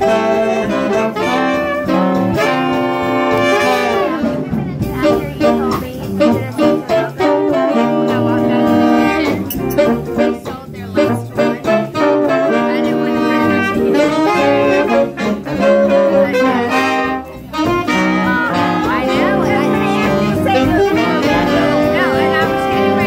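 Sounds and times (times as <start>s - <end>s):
saxophones: 0.0s - 23.0s
trombones: 0.0s - 23.0s
trumpets: 0.0s - 23.0s.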